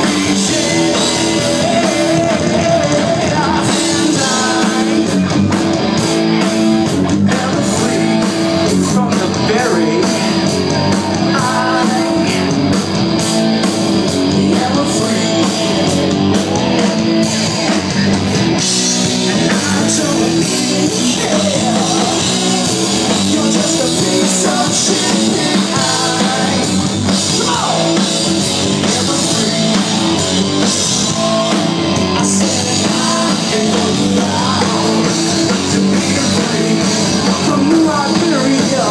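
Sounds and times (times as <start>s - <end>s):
person singing: 0.0s - 12.8s, 14.3s - 18.2s, 19.0s - 38.9s
drum kit: 0.0s - 38.9s
electric guitar: 0.0s - 38.9s.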